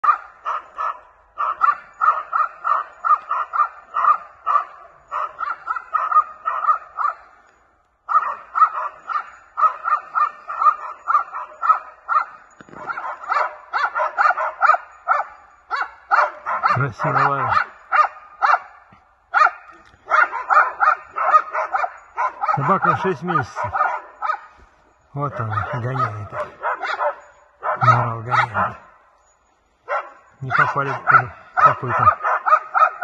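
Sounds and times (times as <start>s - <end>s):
dogs barking: 0.0s - 33.0s.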